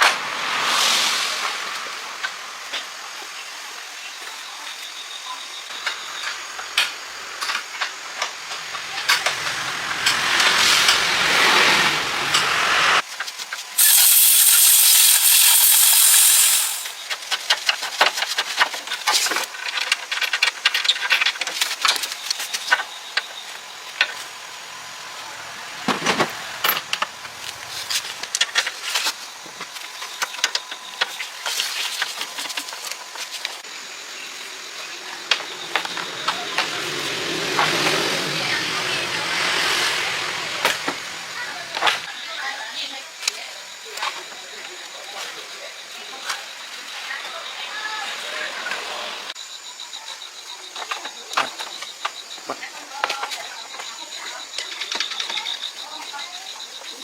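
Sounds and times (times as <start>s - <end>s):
loud steady hiss: 0.0s - 50.7s.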